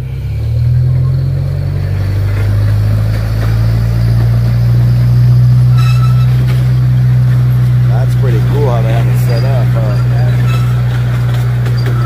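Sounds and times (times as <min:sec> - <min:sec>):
locomotive engine humming: 0:00.0 - 0:12.0.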